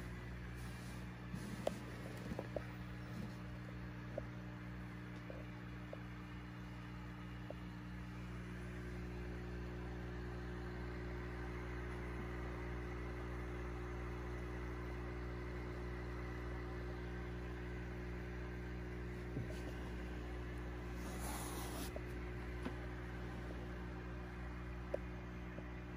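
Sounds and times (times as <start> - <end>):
aquarium filter humming: 0.0 - 25.9.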